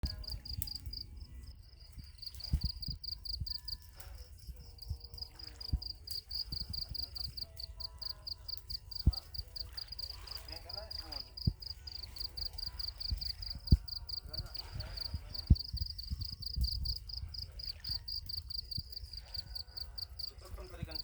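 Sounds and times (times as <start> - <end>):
low wind rumble: 0.0 - 20.0
cricket chirping: 0.0 - 21.0.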